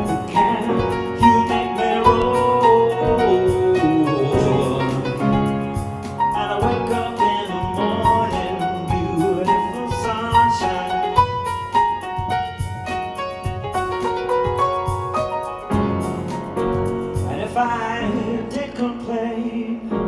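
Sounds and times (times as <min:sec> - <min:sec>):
light steady beat: 0:00.0 - 0:17.7
layered piano loops: 0:00.0 - 0:20.0.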